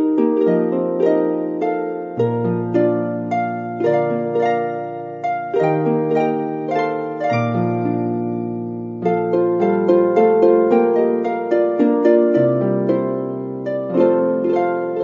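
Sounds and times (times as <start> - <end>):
calm plucked instrumental music: 0.0 - 15.0.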